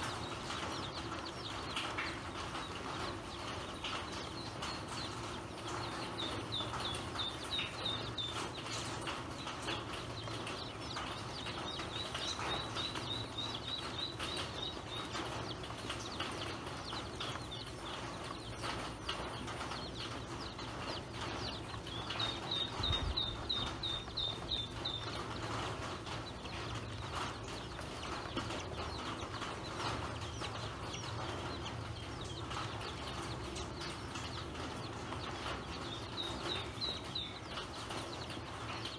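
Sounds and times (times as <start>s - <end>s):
bills ticking against plastic: 0.0s - 38.9s
ducklings peeping: 0.0s - 38.9s.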